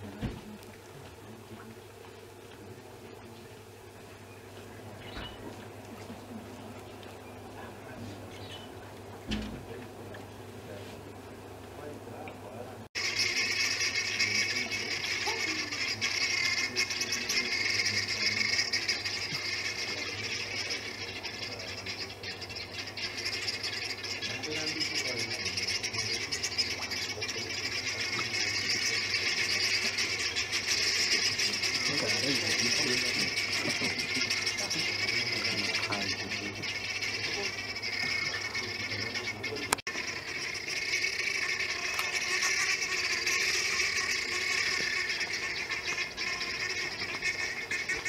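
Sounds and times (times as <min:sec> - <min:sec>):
guineafowl flock harsh chatter: 0:00.0 - 0:48.0.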